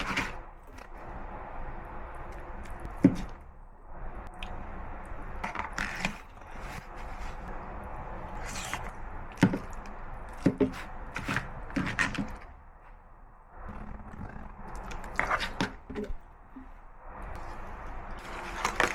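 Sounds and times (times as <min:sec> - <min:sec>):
steady background hum: 0:00.0 - 0:18.9.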